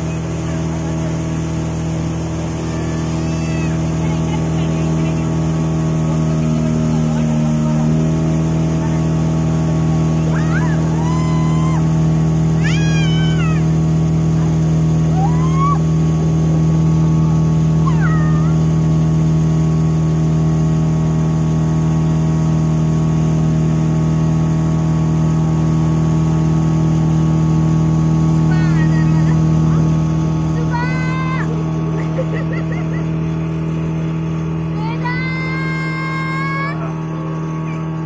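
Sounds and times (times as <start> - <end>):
boat motor droning: 0.0 - 38.0.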